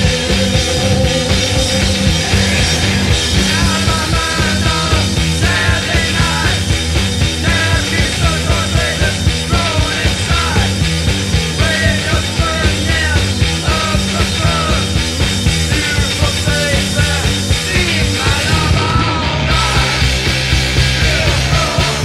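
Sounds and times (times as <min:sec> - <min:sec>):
loud rock music: 0:00.0 - 0:22.0.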